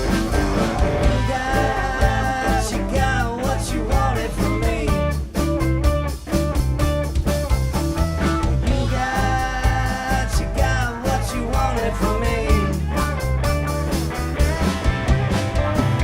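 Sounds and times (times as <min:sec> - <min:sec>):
guitar with bending notes: 0:00.0 - 0:16.0
rock band playing: 0:00.0 - 0:16.0.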